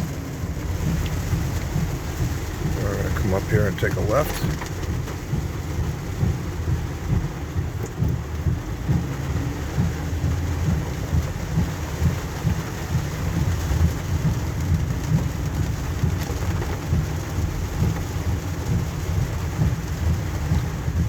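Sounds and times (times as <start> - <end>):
heavy rain drumming on car roof: 0.0 - 21.0.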